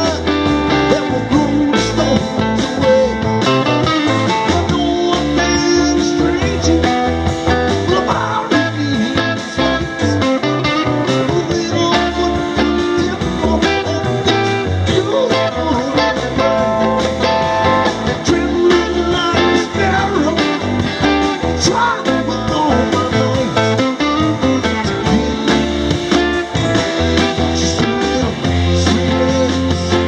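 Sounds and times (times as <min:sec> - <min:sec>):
electric guitar lead bending notes: 0:00.0 - 0:30.0
live rock band playing: 0:00.0 - 0:30.0.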